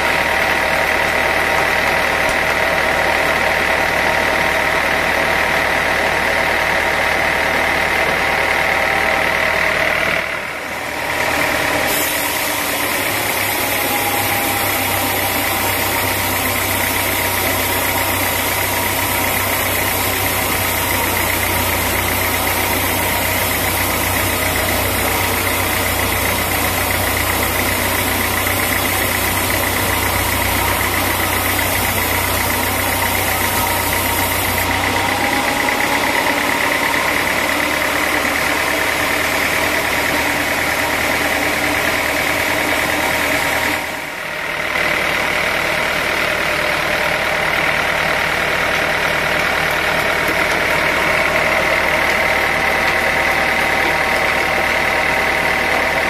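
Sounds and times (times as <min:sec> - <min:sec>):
high machine whine: 0:00.0 - 0:56.0
sawmill machinery drone: 0:00.0 - 0:56.0.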